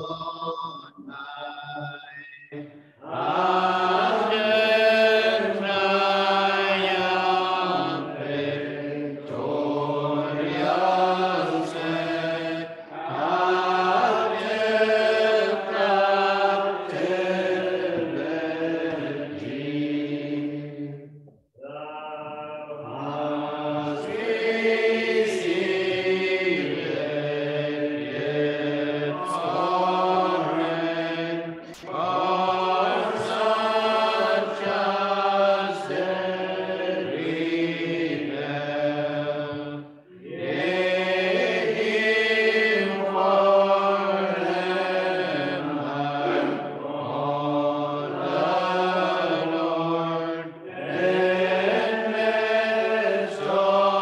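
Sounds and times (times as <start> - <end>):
unaccompanied voices singing: 0.0 - 54.0.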